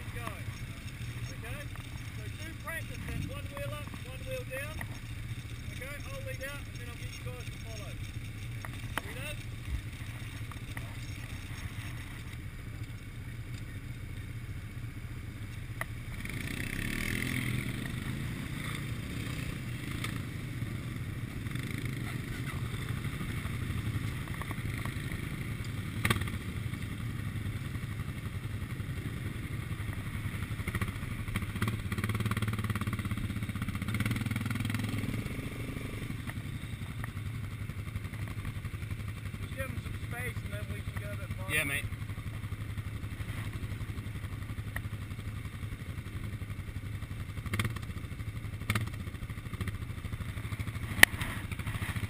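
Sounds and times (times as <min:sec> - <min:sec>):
quad bike engines idling: 0:00.0 - 0:52.0
quad bike passing close: 0:00.0 - 0:52.0.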